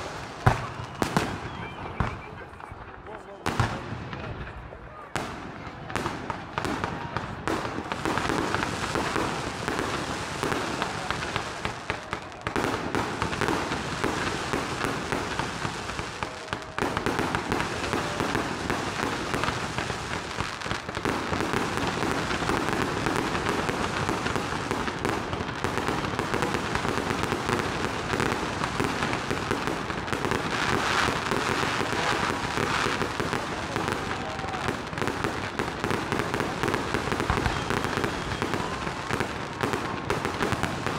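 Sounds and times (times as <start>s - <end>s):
firework pops and crackles: 0.0s - 40.9s
fireworks launching and bursting: 0.0s - 40.9s.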